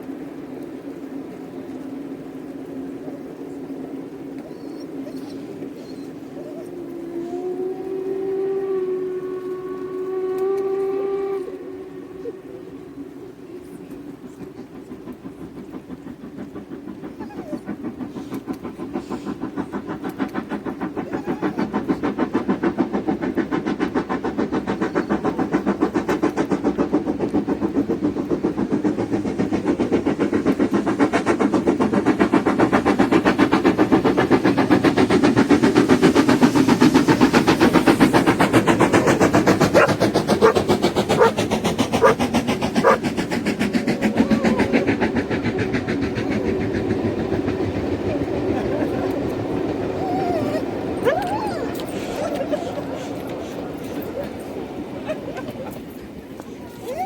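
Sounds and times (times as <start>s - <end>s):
steam train running: 0.0s - 57.0s.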